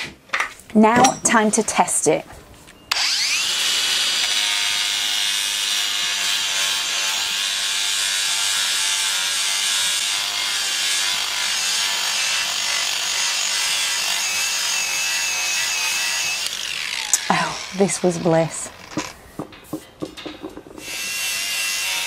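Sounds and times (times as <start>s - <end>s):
angle grinder grinding metal: 2.9s - 22.0s.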